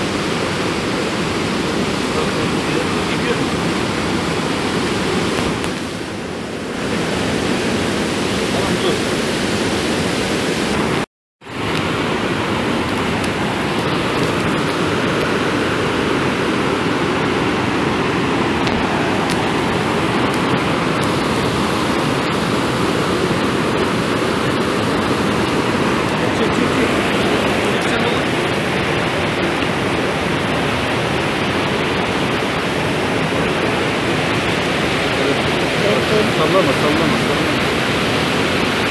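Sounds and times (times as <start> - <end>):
river rapids rushing over rocks: 0.0 - 38.9.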